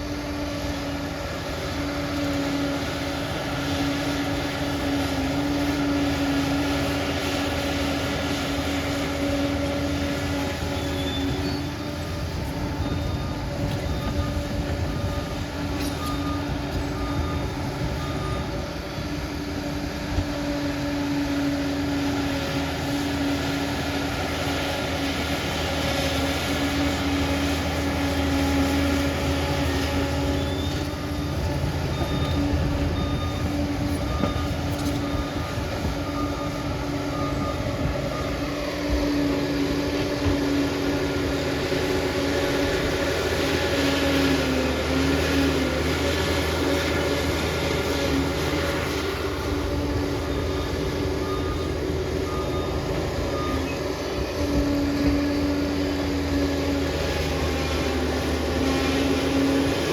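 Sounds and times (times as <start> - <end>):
bulldozer engine and tracks: 0.0 - 59.9.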